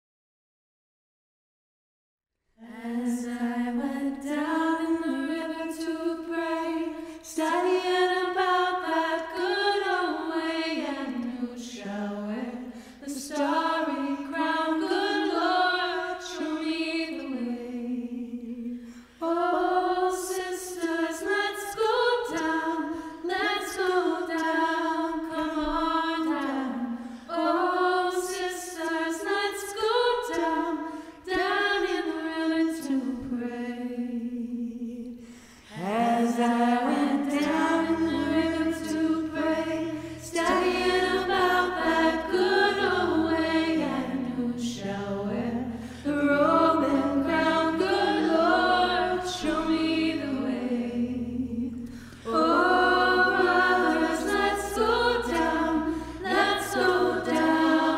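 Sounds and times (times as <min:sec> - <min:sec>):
women singing a cappella: 0:02.6 - 0:57.9.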